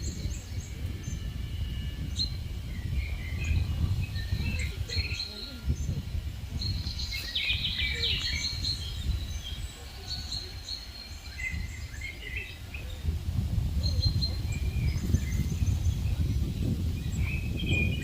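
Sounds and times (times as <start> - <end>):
small birds chirping: 0.0 - 18.0
wind rumble on microphone: 0.0 - 18.0.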